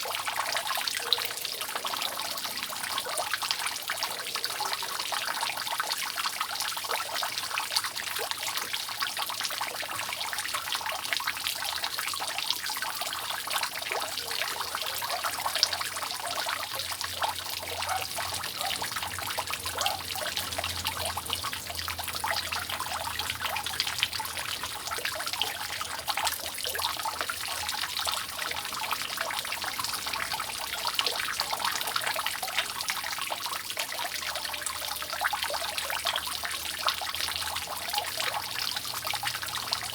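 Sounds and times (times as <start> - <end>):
water dripping off a roof: 0.0 - 39.9.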